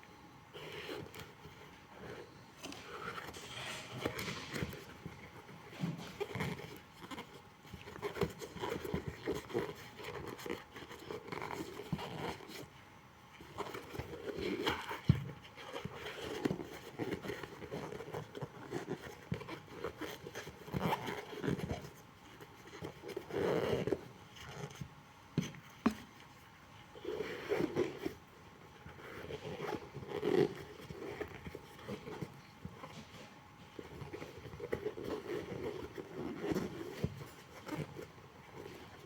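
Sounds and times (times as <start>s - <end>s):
scraping and rubbing shoe sole: 0.6s - 12.7s, 13.4s - 26.1s, 26.8s - 39.0s.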